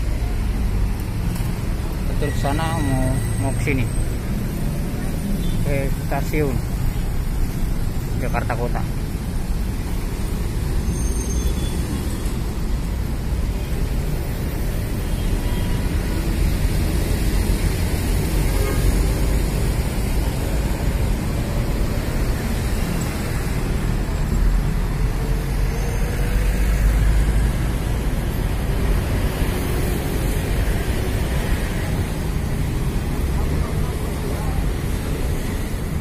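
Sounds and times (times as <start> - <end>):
city street traffic rumble: 0.0 - 36.0.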